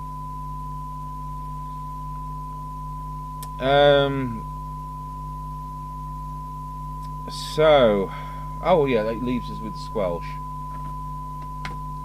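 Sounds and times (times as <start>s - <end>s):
low hum: 0.0s - 12.0s
test tone over radio loudspeaker: 0.0s - 12.0s.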